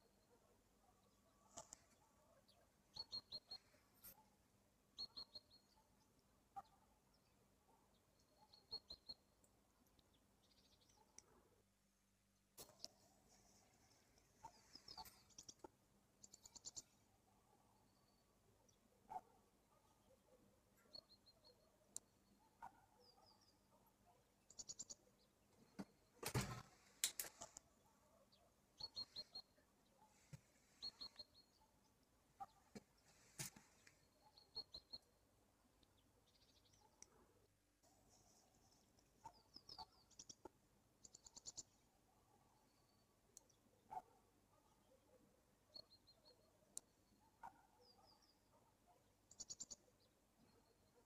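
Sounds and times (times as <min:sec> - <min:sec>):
faint high bird chirps: 0:00.0 - 0:11.4, 0:12.6 - 0:26.6, 0:27.3 - 0:35.2, 0:38.1 - 0:51.0.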